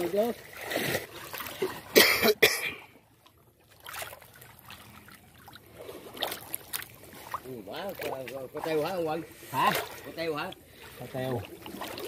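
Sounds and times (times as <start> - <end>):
water splashing: 0.0 - 12.0
water trickling: 0.0 - 12.0.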